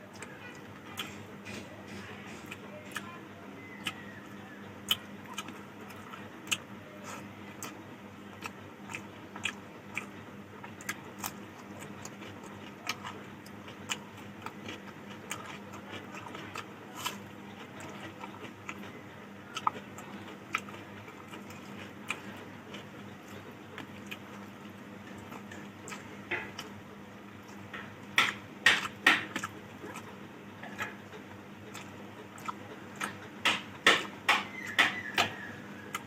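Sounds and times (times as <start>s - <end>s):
person chewing food: 0.0s - 36.0s
steady low hum: 0.0s - 36.0s.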